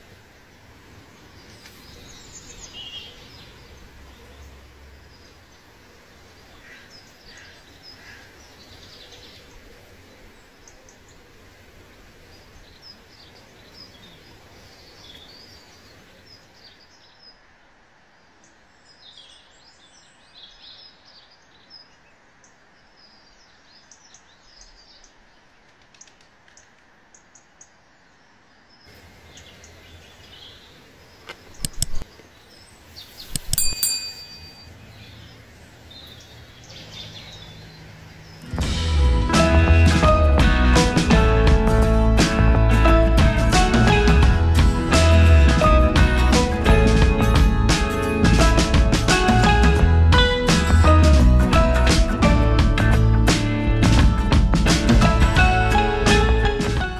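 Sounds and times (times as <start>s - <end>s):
birds chirping: 0.0s - 17.5s, 18.2s - 52.9s
outdoor background hiss: 0.0s - 56.9s.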